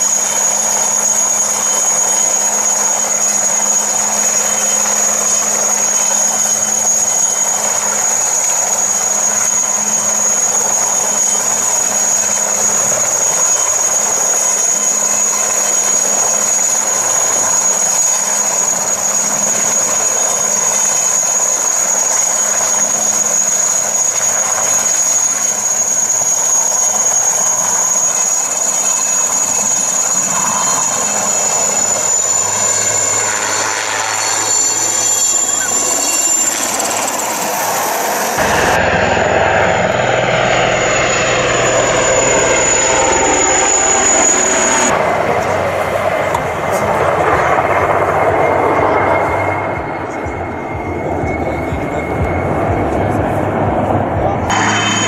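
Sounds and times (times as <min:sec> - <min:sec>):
helicopter hovering: 0:00.0 - 0:55.0
high turbine whine: 0:00.0 - 0:55.0.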